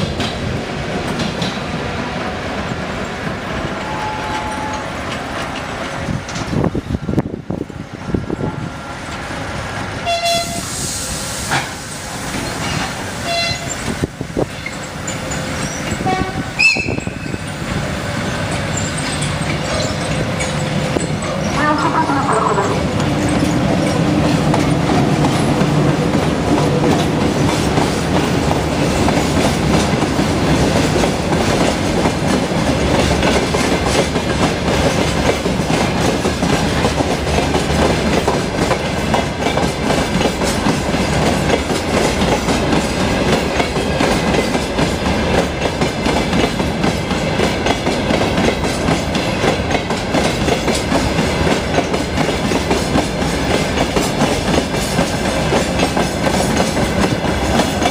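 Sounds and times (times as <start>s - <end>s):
train wheels clattering over rail joints: 0.0s - 1.8s, 4.4s - 6.9s, 11.5s - 21.6s, 22.8s - 57.9s.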